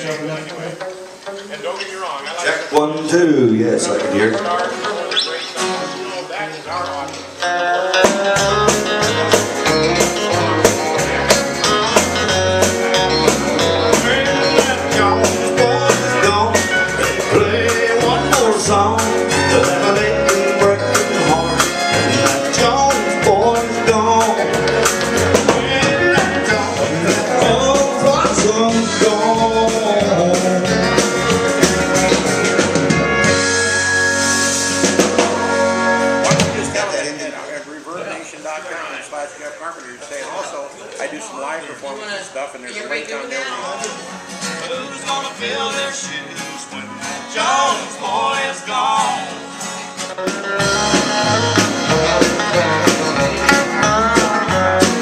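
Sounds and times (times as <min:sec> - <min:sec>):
country band playing live: 0:00.0 - 0:55.0.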